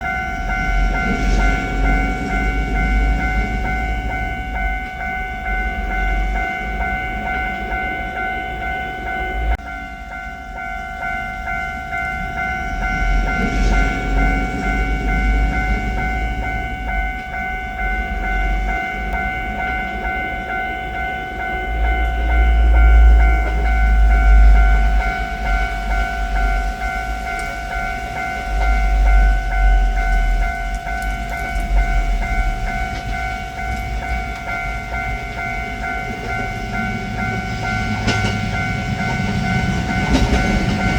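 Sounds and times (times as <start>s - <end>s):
level-crossing bell ringing: 0.0s - 40.9s
train rumble: 0.0s - 40.9s.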